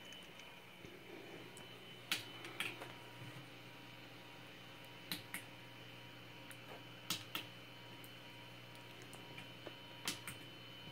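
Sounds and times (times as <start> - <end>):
low electrical hum: 0.0 - 10.9.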